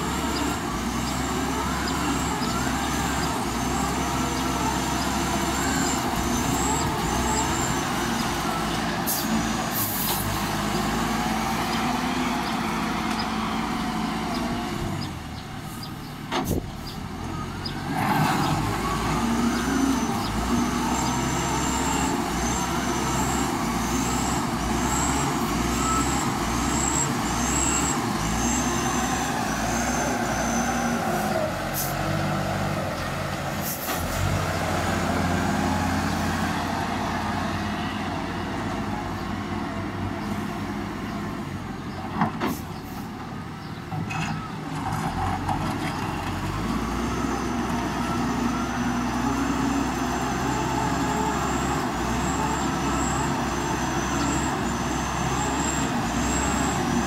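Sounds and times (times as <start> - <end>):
diesel loader engine under load: 0.0 - 57.0.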